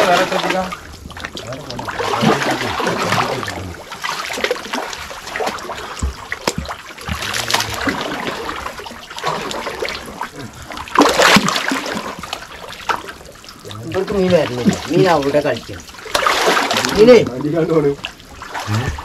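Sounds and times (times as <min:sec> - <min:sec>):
muddy water sloshing and splashing: 0:00.0 - 0:19.0.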